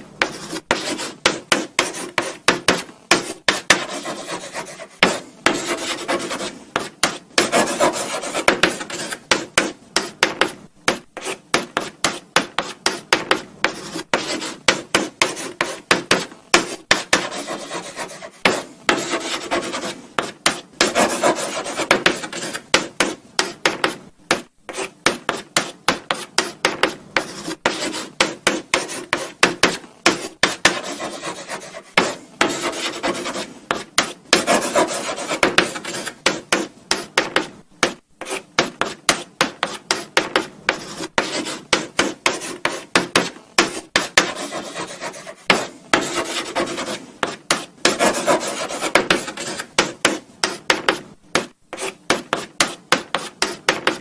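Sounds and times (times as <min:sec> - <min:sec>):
chalk scratching on blackboard: 0:00.2 - 0:54.0.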